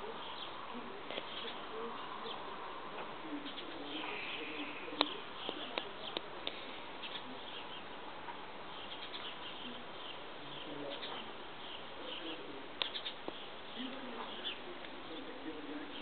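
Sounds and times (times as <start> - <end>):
steady hiss: 2.5 - 16.0.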